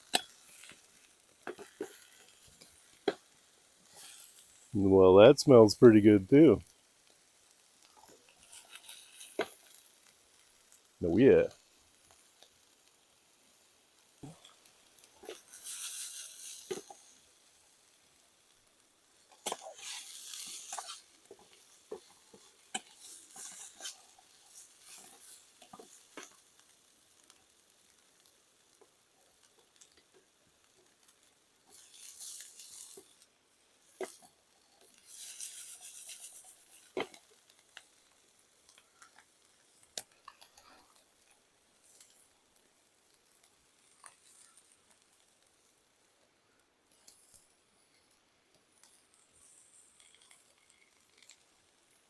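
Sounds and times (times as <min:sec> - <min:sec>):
onions sizzling in a pan: 0:00.0 - 0:05.1, 0:06.6 - 0:52.0.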